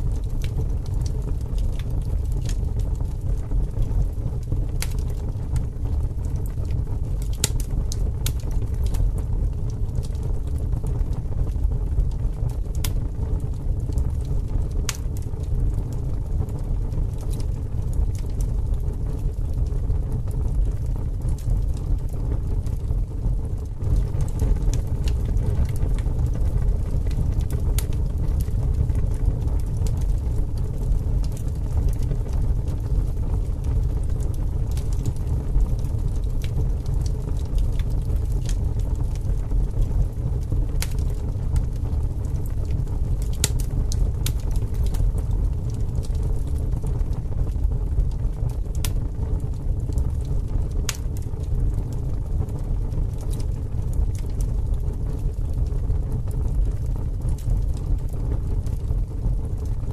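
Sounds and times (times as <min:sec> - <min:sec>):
low rumbling noise: 0:00.0 - 0:59.9
sharp crackles and clicks: 0:00.0 - 0:59.9.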